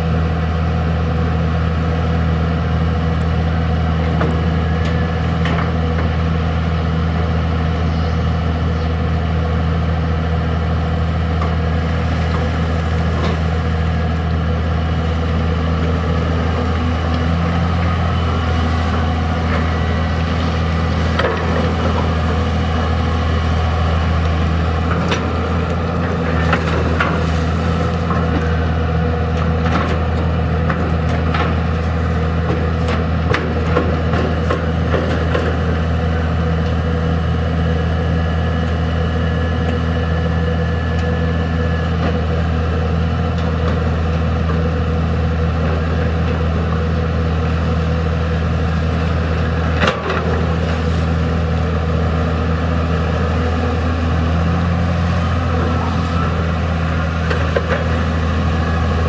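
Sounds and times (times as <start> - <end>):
diesel excavator engine running: 0.0 - 59.0.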